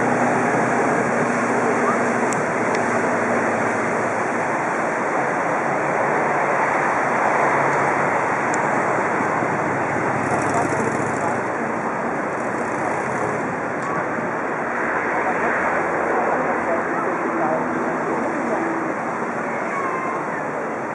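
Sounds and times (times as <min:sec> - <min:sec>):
motorboats rushing at speed: 0:00.0 - 0:20.9.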